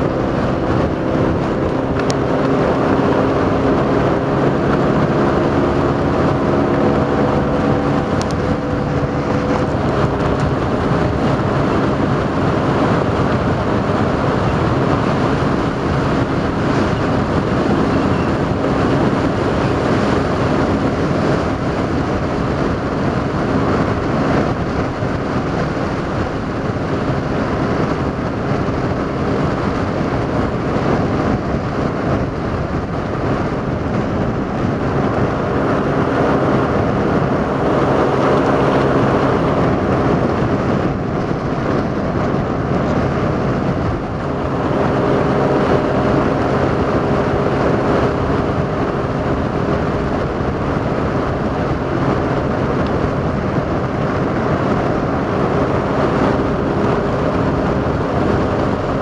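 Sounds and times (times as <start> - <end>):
motorboat engine running: 0.0 - 59.0.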